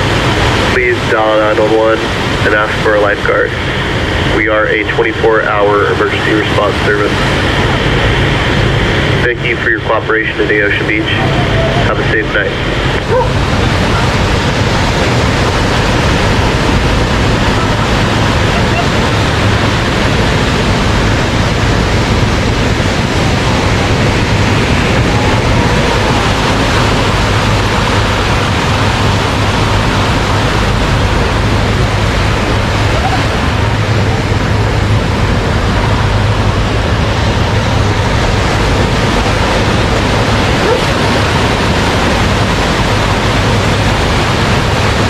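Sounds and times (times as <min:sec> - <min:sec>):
ocean surf washing onto beach: 0:00.0 - 0:45.0.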